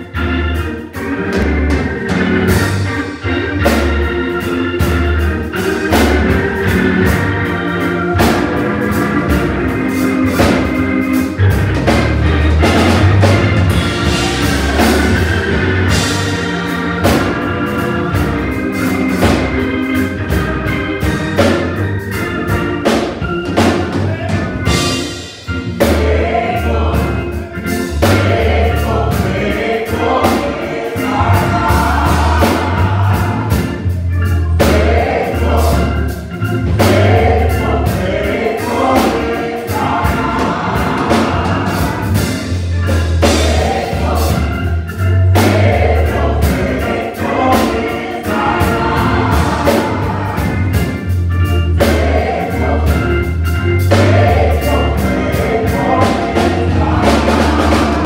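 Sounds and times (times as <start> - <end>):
gospel group singing in harmony: 0.0 - 58.0
organ: 0.0 - 58.0
steady beat: 0.0 - 58.0.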